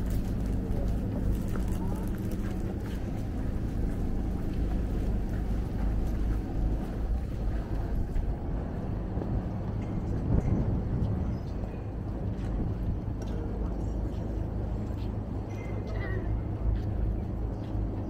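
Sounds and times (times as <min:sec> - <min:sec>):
street ambience rumble: 0:00.0 - 0:18.0.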